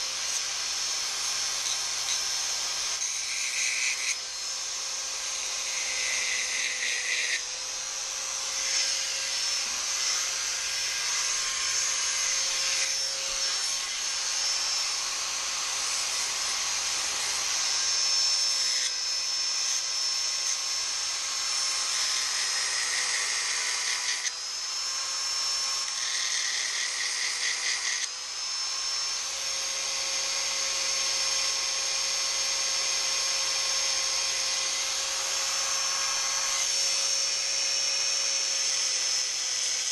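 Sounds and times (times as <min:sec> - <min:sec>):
belt sander whining: 0:00.0 - 0:39.9.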